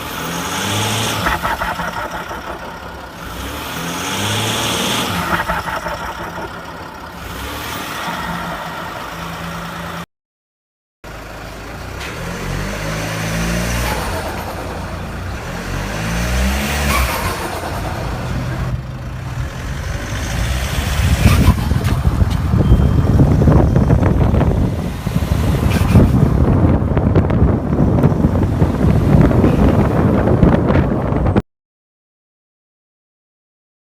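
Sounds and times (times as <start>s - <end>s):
diesel engine revving: 0.0s - 10.1s, 11.1s - 31.4s.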